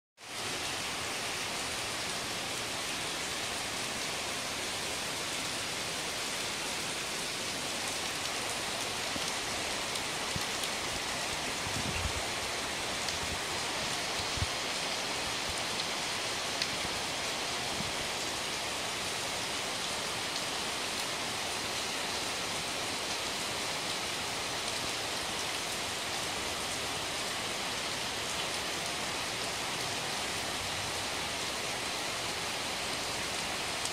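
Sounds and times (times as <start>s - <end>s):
rain falling into water: 0.2s - 33.9s.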